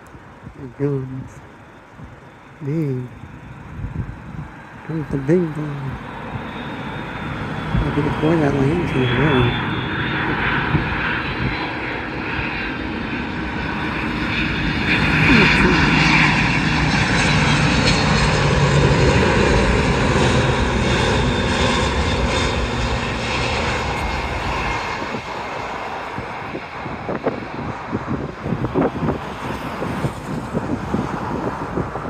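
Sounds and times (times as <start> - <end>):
jet airliner passing: 0.0 - 32.0.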